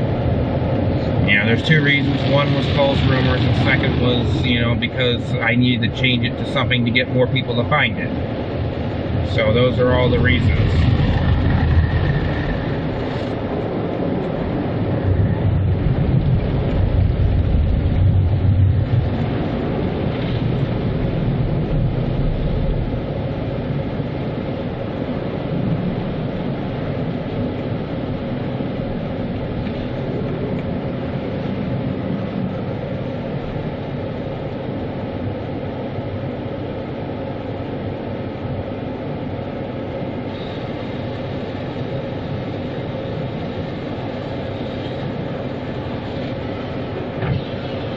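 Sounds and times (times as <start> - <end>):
car wash rushing and rumbling: 0.0 - 47.9.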